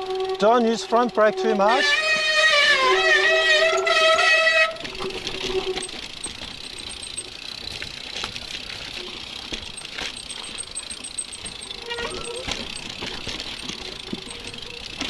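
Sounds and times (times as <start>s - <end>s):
bike disc brake squealing: 0.0s - 8.3s, 8.9s - 15.0s
bike rattling: 0.0s - 15.0s
tyres rolling over dirt trail: 0.0s - 15.0s.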